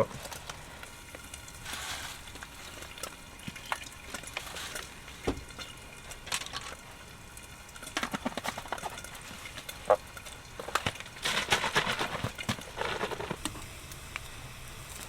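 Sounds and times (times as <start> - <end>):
batter sizzling on hot pan: 0.0 - 11.3, 12.3 - 15.0
batter pouring: 0.0 - 15.0.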